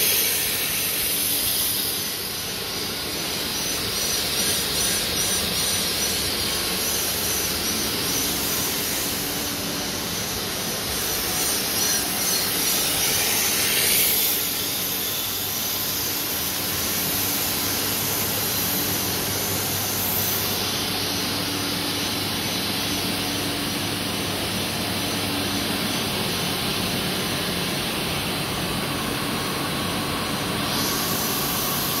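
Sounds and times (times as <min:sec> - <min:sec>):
machinery rushing hiss: 0:00.0 - 0:25.8, 0:28.8 - 0:32.0.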